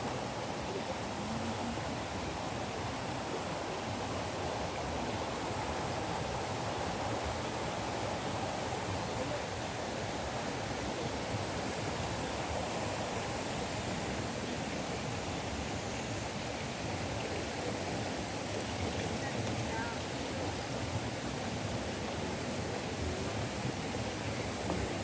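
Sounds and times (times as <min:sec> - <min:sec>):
stream rushing: 0:00.0 - 0:25.0.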